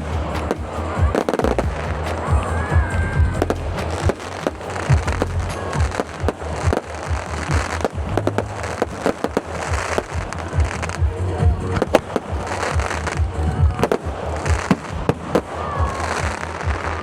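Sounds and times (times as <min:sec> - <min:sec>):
fireworks bangs and crackling: 0:00.0 - 0:17.0
music playing: 0:00.0 - 0:17.0.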